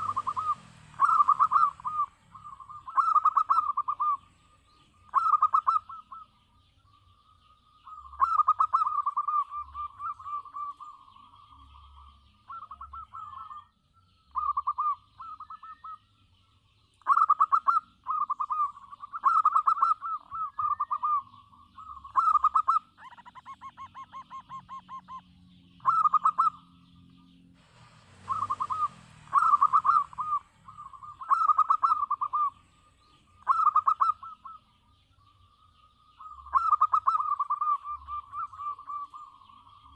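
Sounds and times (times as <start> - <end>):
dove cooing: 0.0 - 6.4, 7.8 - 13.7, 14.3 - 16.1, 17.0 - 34.8, 36.1 - 39.9.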